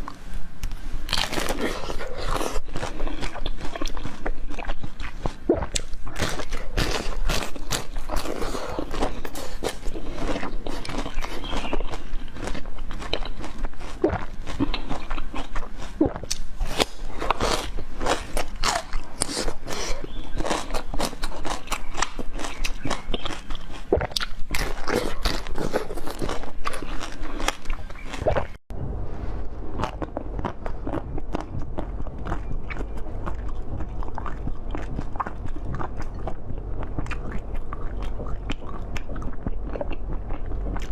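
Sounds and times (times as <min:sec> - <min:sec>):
person crunching and chewing food: 0:00.0 - 0:28.6, 0:29.2 - 0:40.9.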